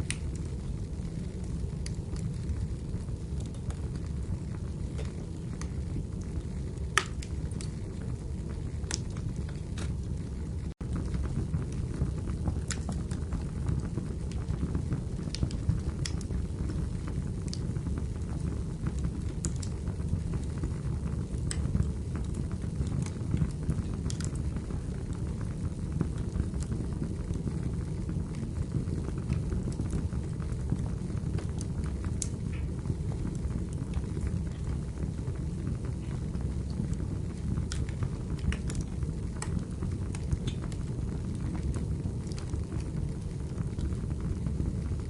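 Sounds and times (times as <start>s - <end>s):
firewood crackles and pops: 0.0s - 45.0s
low rumble of flames: 0.0s - 45.0s.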